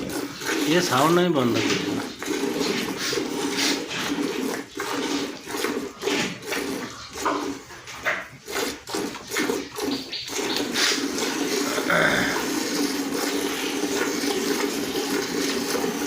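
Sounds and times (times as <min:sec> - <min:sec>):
milk squirting into bucket: 0:00.0 - 0:16.0.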